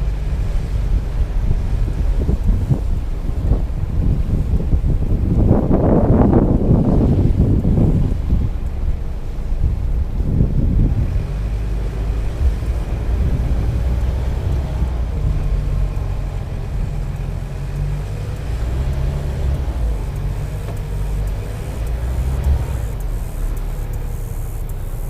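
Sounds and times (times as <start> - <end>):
car driving slowly: 0.0 - 25.0
road rumble: 0.0 - 25.0.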